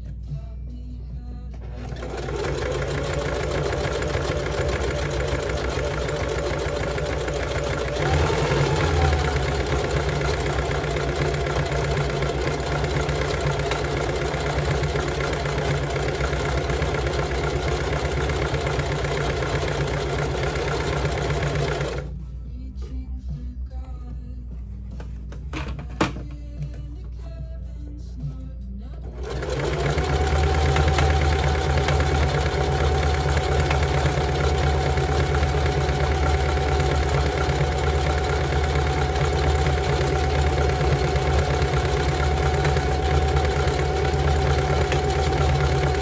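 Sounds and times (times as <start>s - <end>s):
sewing machine stitching rope: 1.7s - 22.1s, 29.0s - 46.0s.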